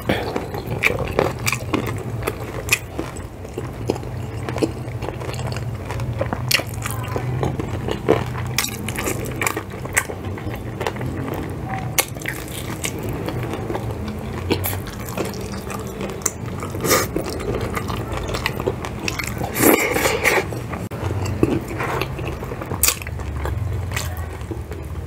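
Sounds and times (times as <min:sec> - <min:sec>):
crispy fried chicken crunching: 0:00.0 - 0:25.0.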